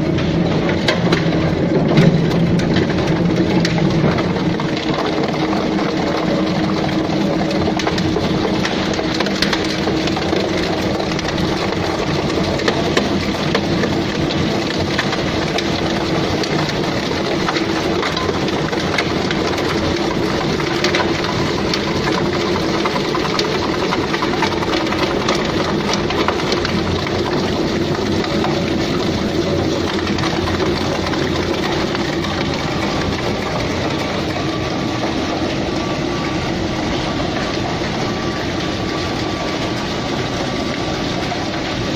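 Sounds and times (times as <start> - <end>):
motor and gearbox hum: 0.0 - 41.9
plastic clattering in shredder: 0.0 - 41.9.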